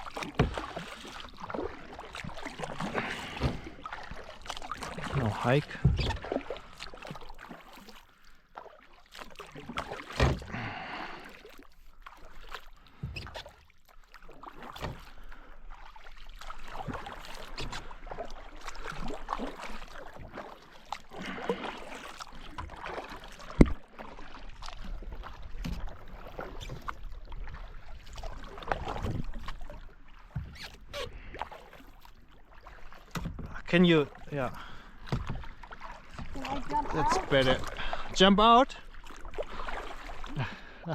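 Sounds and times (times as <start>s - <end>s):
paddle splashing in water: 0.0s - 40.9s.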